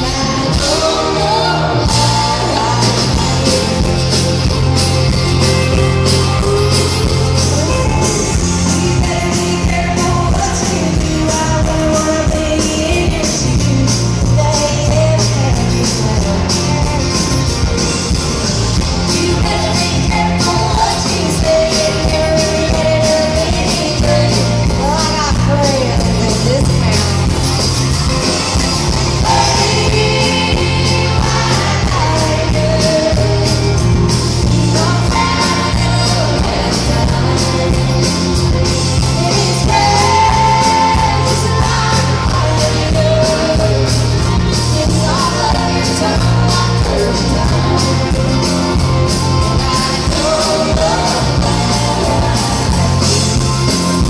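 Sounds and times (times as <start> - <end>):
woman singing lead: 0.0 - 18.1, 18.8 - 27.9, 28.8 - 54.0
electric bass: 0.0 - 54.0
steady drum beat: 0.0 - 54.0.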